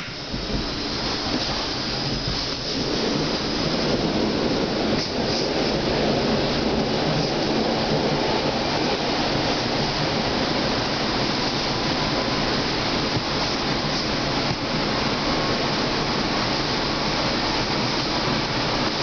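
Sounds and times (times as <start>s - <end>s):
train wheels rolling on rail: 0.0s - 19.0s.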